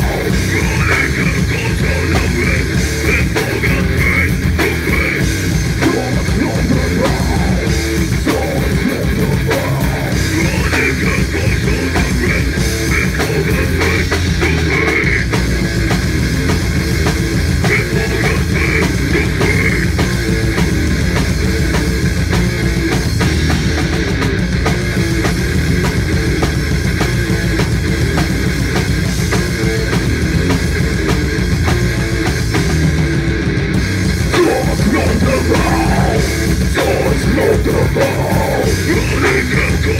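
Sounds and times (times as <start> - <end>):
bass guitar: 0.0 - 39.9
electric guitar: 0.0 - 39.9
fast drumming: 0.0 - 39.9.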